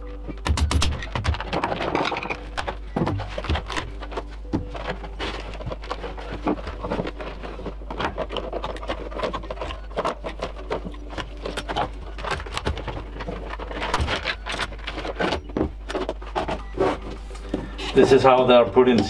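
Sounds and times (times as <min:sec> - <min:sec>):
batteries clicking and scraping: 0:00.0 - 0:19.0.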